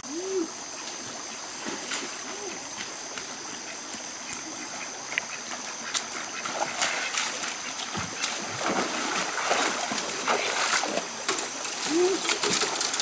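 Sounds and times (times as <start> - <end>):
water flowing: 0.0 - 13.0
feet splashing through stream: 0.7 - 13.0.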